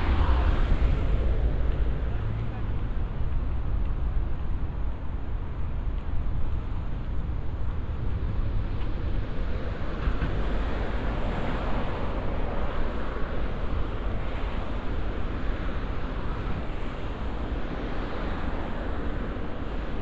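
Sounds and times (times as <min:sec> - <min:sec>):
low city rumble: 0:00.0 - 0:20.0.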